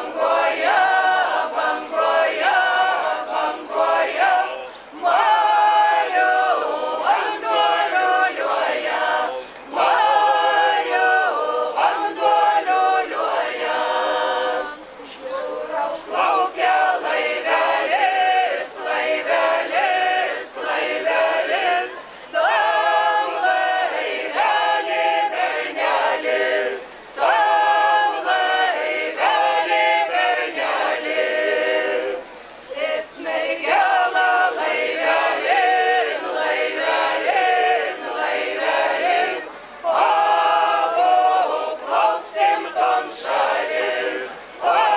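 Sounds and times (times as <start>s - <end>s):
group singing unaccompanied folk song: 0.0s - 44.9s.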